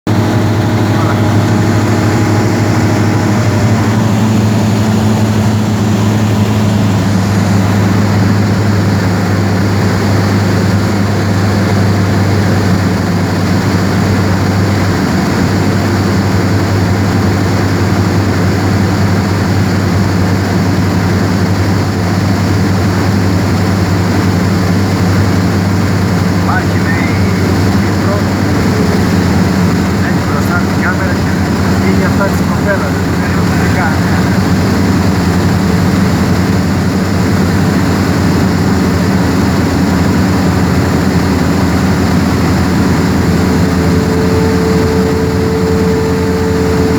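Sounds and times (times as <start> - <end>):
aircraft engine droning: 0.0 - 46.9
airflow noise: 0.1 - 17.8, 21.2 - 46.9.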